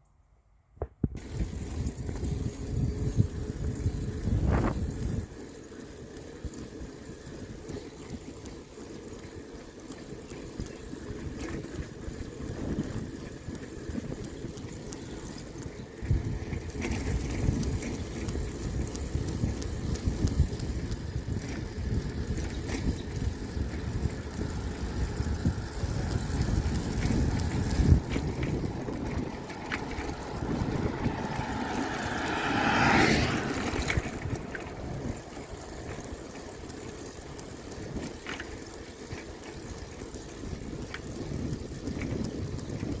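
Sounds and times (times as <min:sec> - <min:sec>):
wind buffeting microphone: 0:01.0 - 0:08.5, 0:10.5 - 0:43.0.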